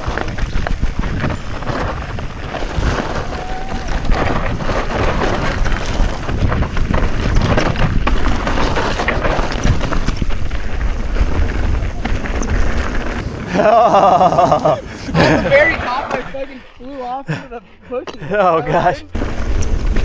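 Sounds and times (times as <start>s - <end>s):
wind on microphone: 0.0s - 16.1s
tyres crunching on gravel: 0.0s - 17.4s
bike rattling: 0.0s - 20.0s.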